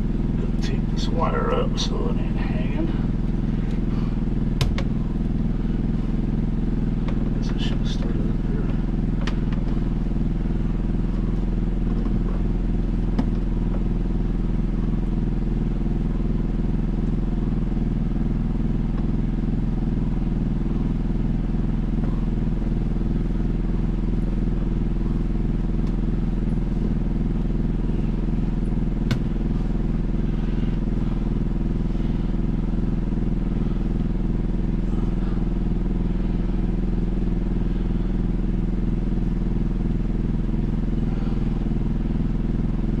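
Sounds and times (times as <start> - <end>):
motor humming: 0.0 - 43.0.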